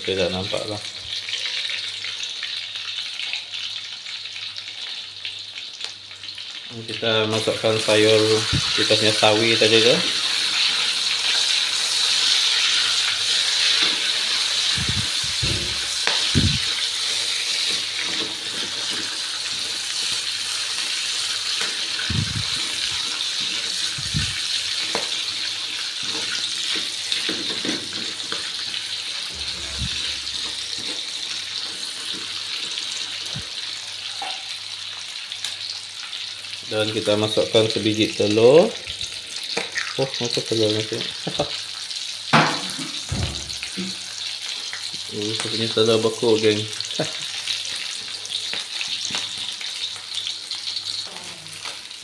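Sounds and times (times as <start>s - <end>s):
oil sizzling in a wok: 0.0s - 52.0s.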